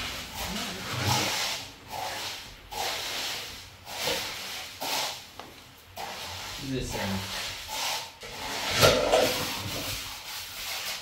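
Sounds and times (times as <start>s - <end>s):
tool spreading wet cement: 0.0s - 5.3s, 5.9s - 11.0s.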